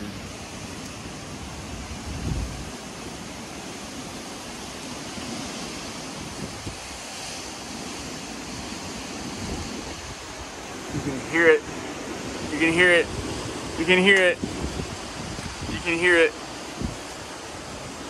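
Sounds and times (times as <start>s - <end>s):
hurricane wind: 0.0s - 18.0s
rain rushing: 0.0s - 18.0s
wind gusts buffeting microphone: 0.0s - 18.0s.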